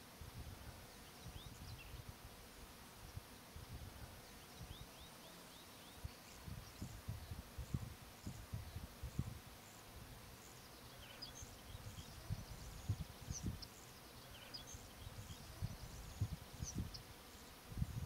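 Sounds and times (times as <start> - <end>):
wind rumble on microphone: 0.1 - 2.4, 3.0 - 4.9, 5.9 - 10.4, 11.2 - 13.7, 14.6 - 18.0
small birds chirping: 0.7 - 2.2, 2.9 - 18.0.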